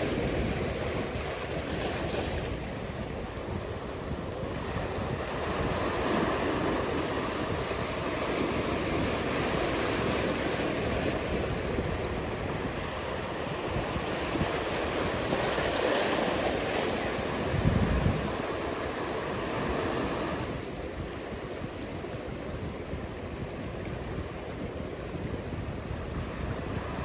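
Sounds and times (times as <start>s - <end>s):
ocean surf breaking: 0.0s - 27.0s
wind rumbling on microphone: 0.0s - 27.0s.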